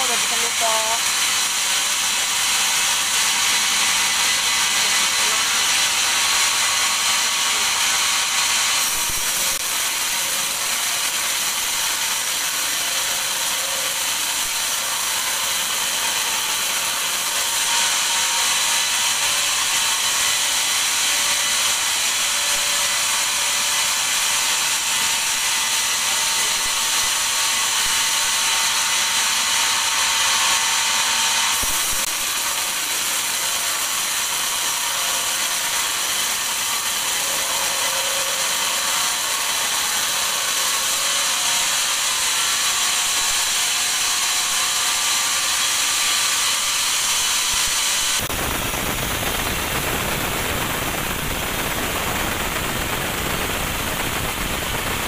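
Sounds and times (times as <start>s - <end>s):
band saw cutting wood: 0.0s - 55.0s.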